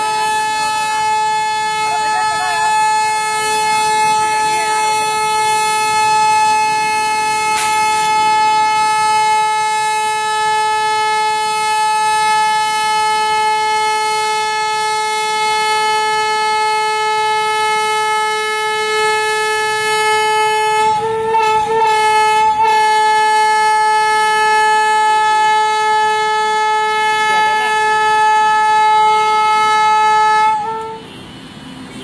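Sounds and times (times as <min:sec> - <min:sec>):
steady horn-like tone: 0:00.0 - 0:32.0.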